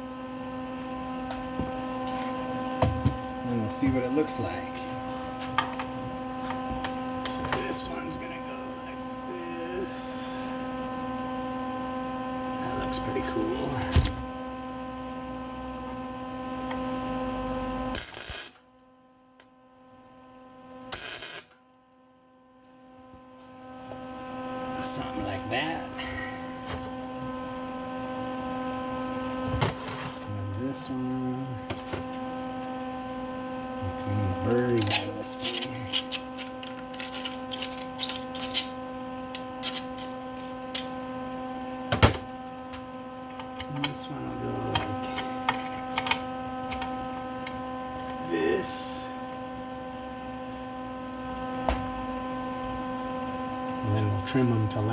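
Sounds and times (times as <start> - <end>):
electrical hum: 0.0 - 18.6, 22.6 - 54.9.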